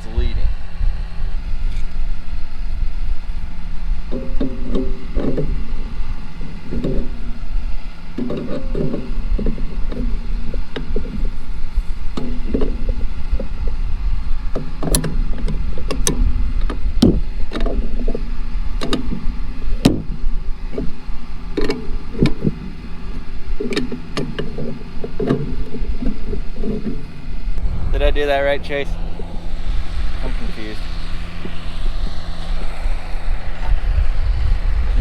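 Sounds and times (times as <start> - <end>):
low rumble: 0.0 - 7.9, 9.0 - 23.6, 25.4 - 35.0.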